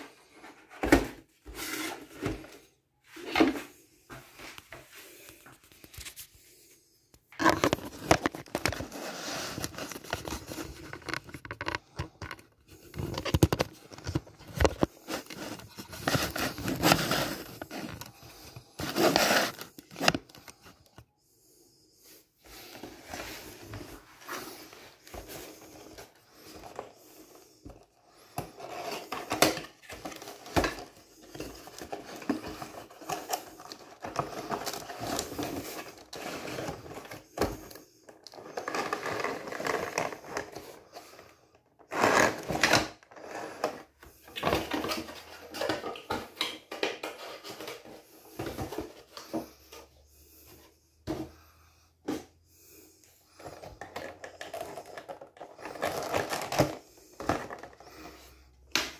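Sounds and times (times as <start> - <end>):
cardboard and plastic rustling: 0.0 - 6.5, 7.3 - 21.0, 22.6 - 52.3, 53.0 - 58.9.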